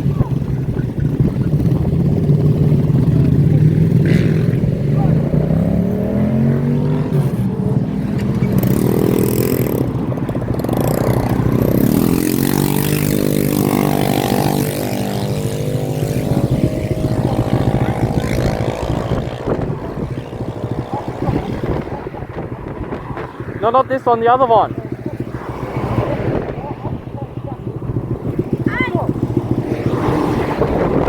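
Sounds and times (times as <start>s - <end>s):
motorbike engines revving: 0.0s - 31.0s.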